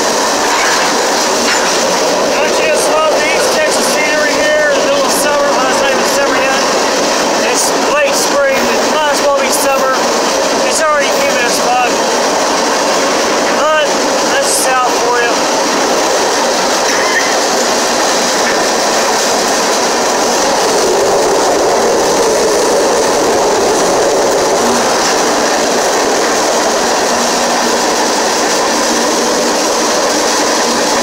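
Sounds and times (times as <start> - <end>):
train wheels running on rails: 0.0 - 31.0.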